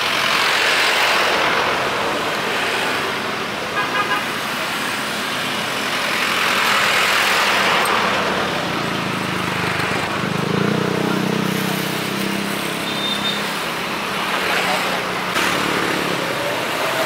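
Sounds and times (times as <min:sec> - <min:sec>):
engine and tyre noise: 0:00.0 - 0:17.0
vehicle engine rumble: 0:00.0 - 0:17.0.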